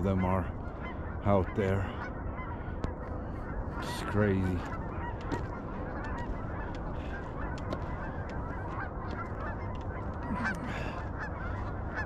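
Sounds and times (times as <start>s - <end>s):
flock of geese honking: 0.0s - 12.0s.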